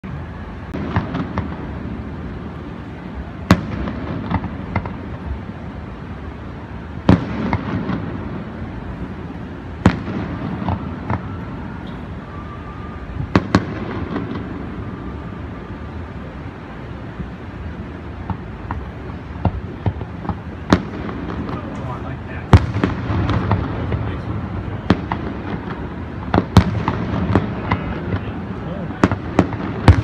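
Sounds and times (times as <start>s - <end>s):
distant fireworks bursting: 0.0s - 30.0s.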